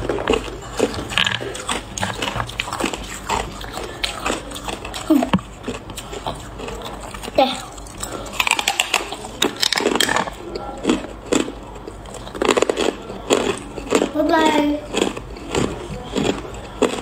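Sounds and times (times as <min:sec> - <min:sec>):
ice crunching between teeth: 0:00.0 - 0:14.2.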